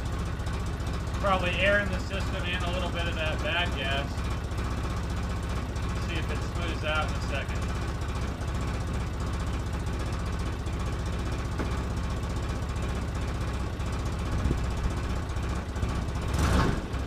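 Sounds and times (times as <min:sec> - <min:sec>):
engine idling unevenly: 0:00.0 - 0:17.0.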